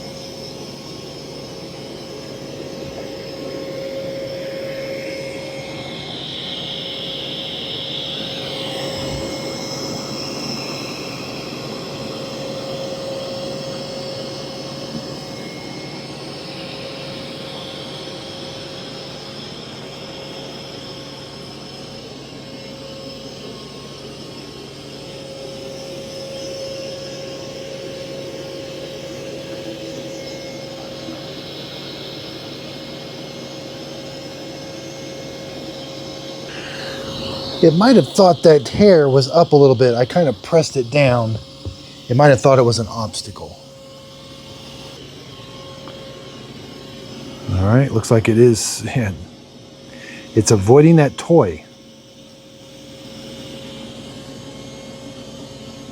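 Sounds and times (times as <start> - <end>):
robot vacuum whirring: 0.0 - 49.2.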